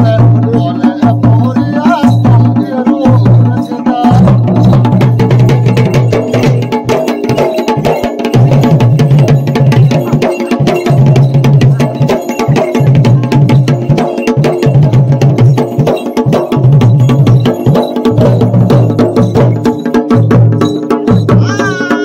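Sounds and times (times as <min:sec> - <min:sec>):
fast loud drumming: 0:00.0 - 0:22.0.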